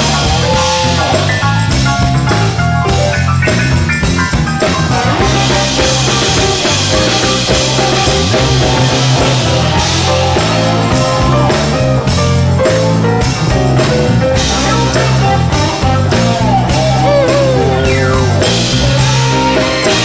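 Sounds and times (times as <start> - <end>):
live band playing instrumental: 0.0 - 20.0.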